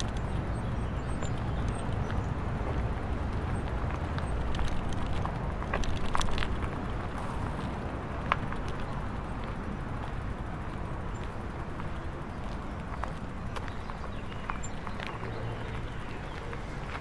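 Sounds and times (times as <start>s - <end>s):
bicycle rolling rumble: 0.0s - 17.0s.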